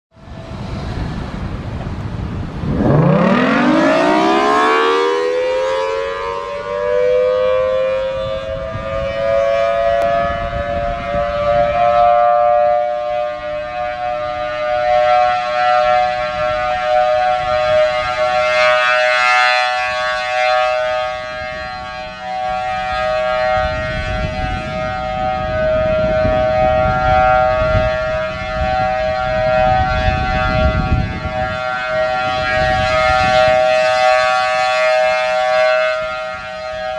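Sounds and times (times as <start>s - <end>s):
warning siren: 0.2s - 36.9s
wind buffeting microphone: 0.2s - 36.9s.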